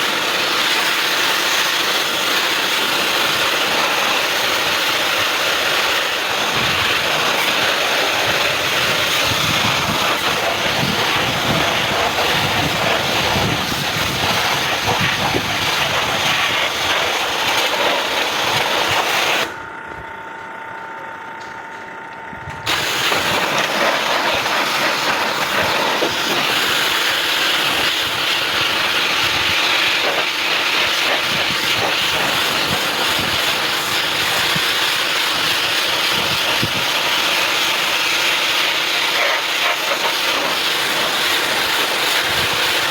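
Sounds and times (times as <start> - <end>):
pressure washer spraying water: 0.0 - 19.6, 22.7 - 42.9.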